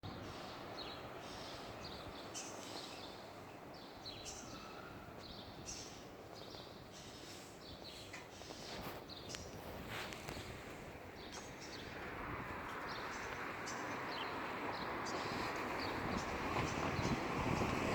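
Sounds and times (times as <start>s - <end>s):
small birds chirping: 0.0s - 17.9s
steady outdoor hiss: 0.0s - 17.9s.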